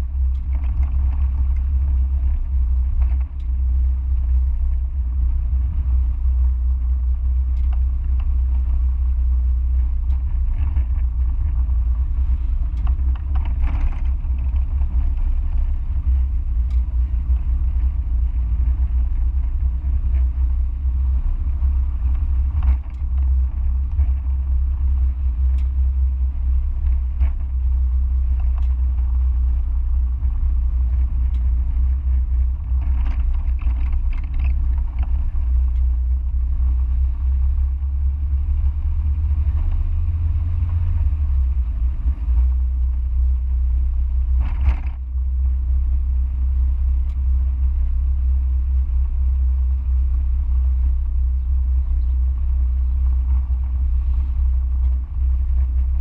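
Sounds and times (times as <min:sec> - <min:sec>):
car running low rumble: 0:00.0 - 0:56.0.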